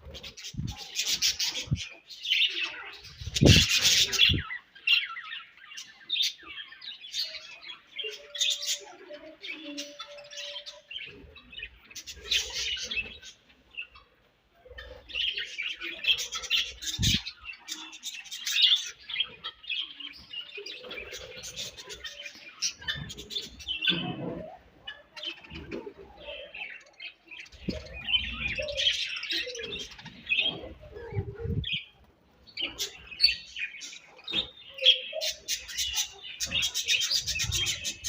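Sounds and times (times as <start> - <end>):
budgerigars chirping and warbling: 0.0 - 38.0.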